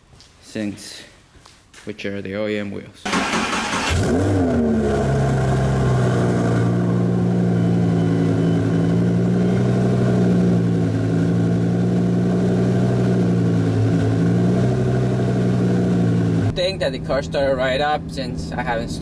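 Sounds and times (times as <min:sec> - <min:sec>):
sports car engine idling: 0:03.1 - 0:19.0.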